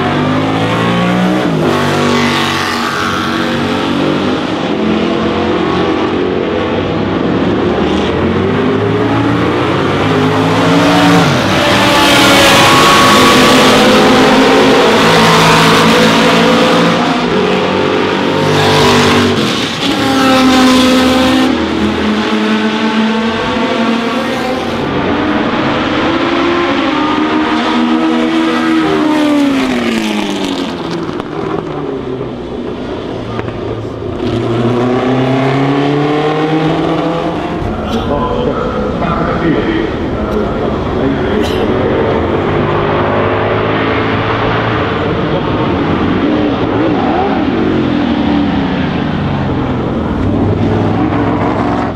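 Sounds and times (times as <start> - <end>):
race cars passing at speed: 0.0 - 51.9.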